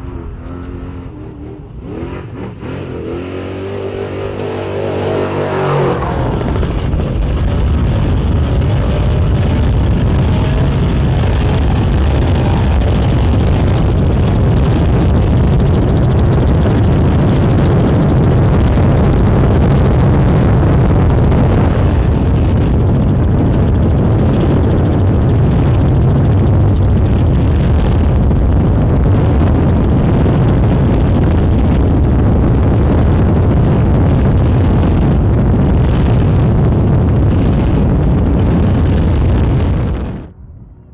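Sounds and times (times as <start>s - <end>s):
motor throbbing: 0.0s - 40.3s.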